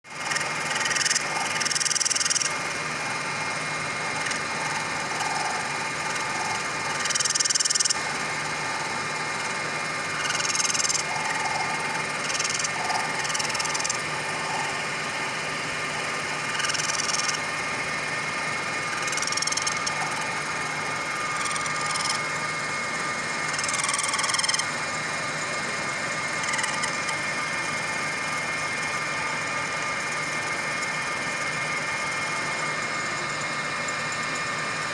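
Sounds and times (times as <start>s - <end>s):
lathe motor humming and whining: 0.1s - 34.9s.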